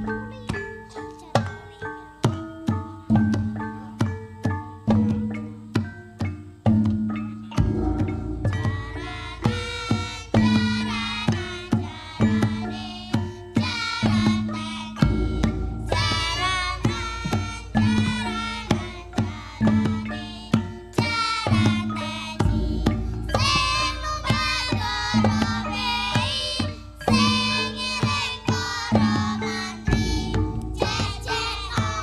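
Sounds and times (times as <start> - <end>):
hand drum strokes: 2.2 - 32.0.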